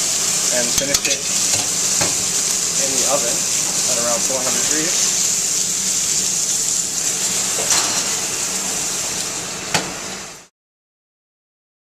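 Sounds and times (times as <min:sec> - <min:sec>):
pork chop sizzling in skillet: 0:00.0 - 0:10.5.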